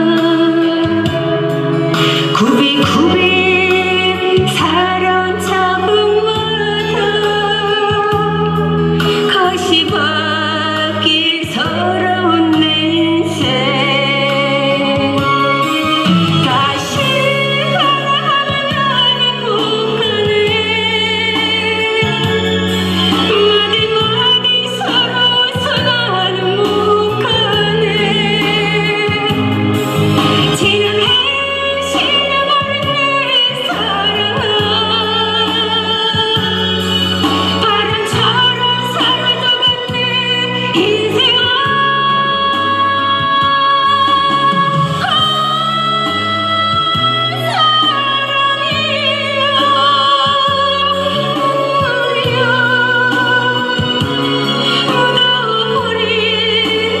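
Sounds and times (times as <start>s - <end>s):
amplified backing music: 0.0s - 57.0s
instrumental accompaniment: 0.0s - 57.0s
woman singing into a microphone: 0.0s - 57.0s.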